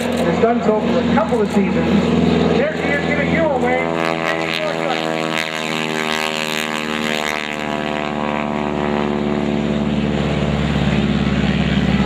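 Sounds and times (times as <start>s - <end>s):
low rumble: 0.0s - 7.0s, 7.6s - 12.0s
propeller plane engine droning: 0.0s - 12.0s.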